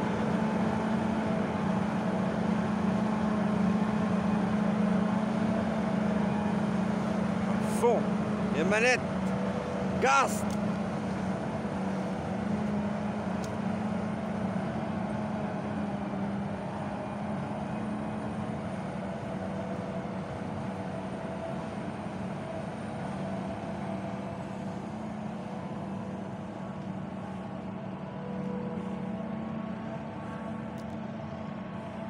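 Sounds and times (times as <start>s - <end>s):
harvester engine and chopper: 0.0s - 32.0s.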